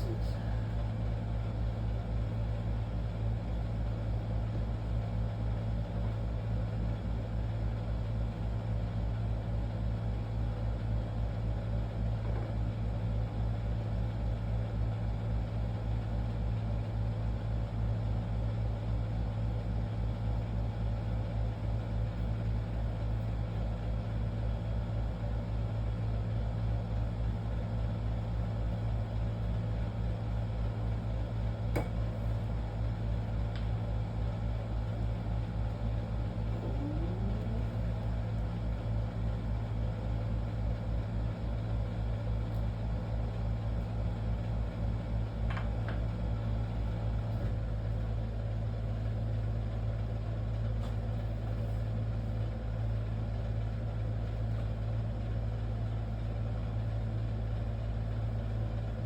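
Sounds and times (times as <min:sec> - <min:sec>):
low machine hum with throb: 0:00.0 - 0:59.0.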